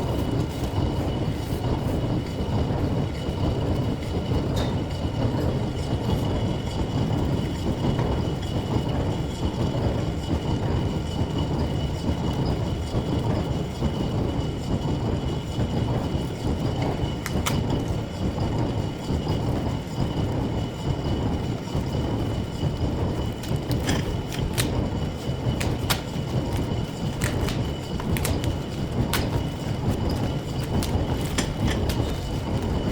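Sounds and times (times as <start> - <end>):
lathe running: 0.0 - 32.9.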